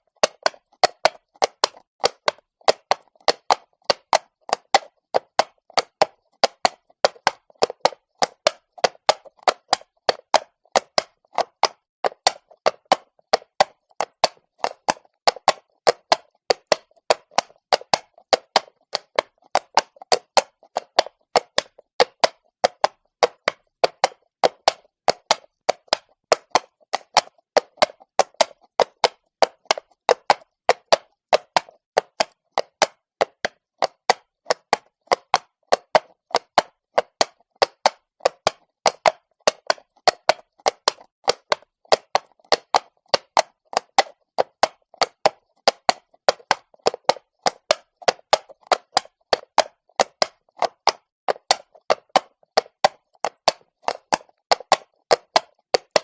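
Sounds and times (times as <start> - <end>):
horse hooves clopping on stone: 0.1 - 56.0.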